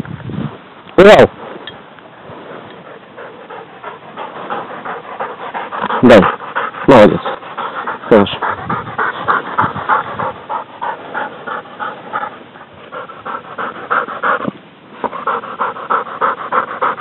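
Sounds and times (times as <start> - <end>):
dog panting: 2.3 - 17.0.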